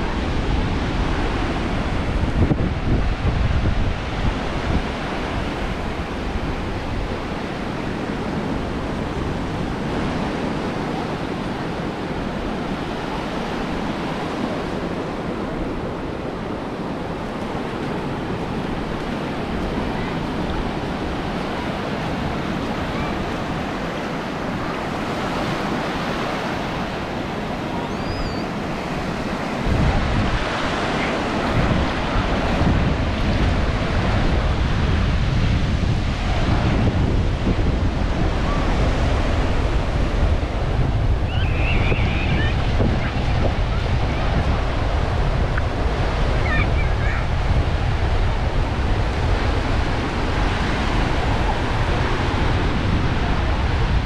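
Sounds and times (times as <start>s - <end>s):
ocean surf breaking: 0.0s - 54.0s
wind rumbling on microphone: 0.0s - 54.0s.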